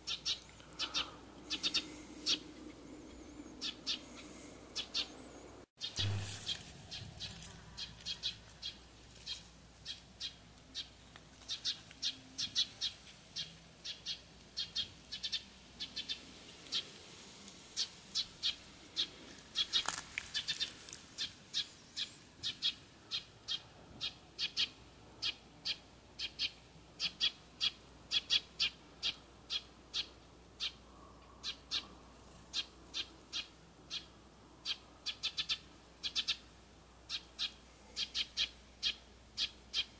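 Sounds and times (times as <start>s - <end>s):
small bird chirping: 0.0s - 16.9s, 17.8s - 30.8s, 31.4s - 36.5s, 37.1s - 39.9s.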